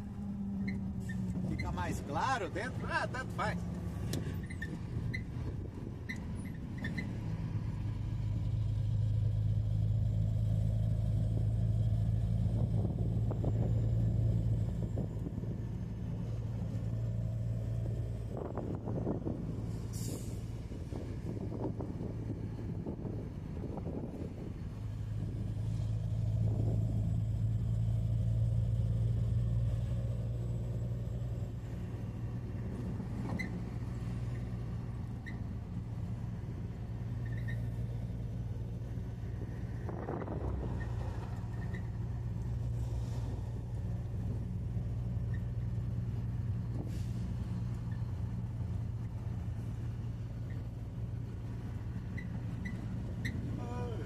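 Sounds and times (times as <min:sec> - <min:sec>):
road noise: 0:00.0 - 0:54.0
truck diesel engine droning: 0:00.0 - 0:54.0.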